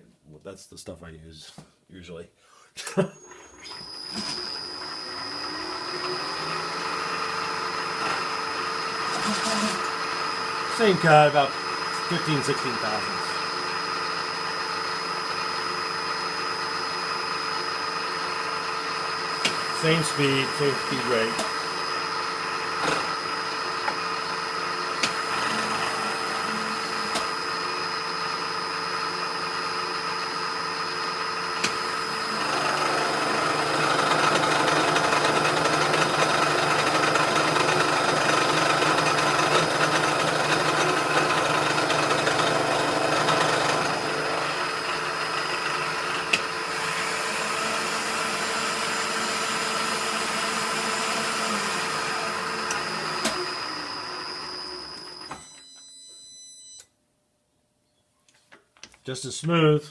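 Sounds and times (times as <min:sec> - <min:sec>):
milling spindle whine: 0:03.2 - 0:48.2, 0:50.6 - 0:55.8
cutter milling steel: 0:03.6 - 0:55.2.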